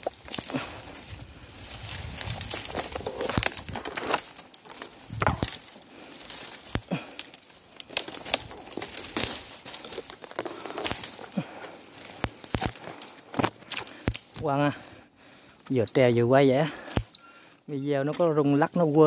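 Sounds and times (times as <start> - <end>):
bamboo stems rustling and snapping: 0.0 - 19.0.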